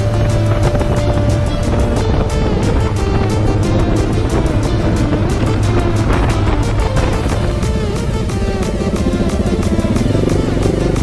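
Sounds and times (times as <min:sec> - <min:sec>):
music with fast steady beat: 0:00.0 - 0:11.0.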